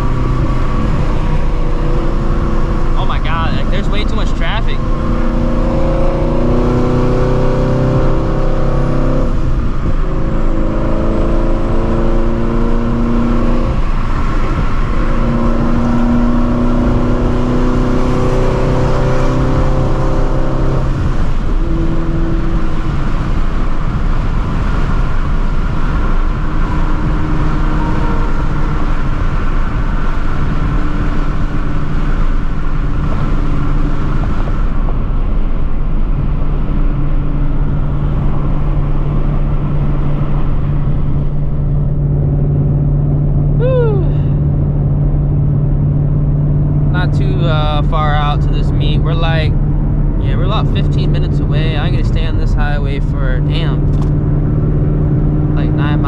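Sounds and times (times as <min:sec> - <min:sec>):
car engine at highway speed: 0:00.0 - 0:56.0
road noise: 0:00.0 - 0:56.0.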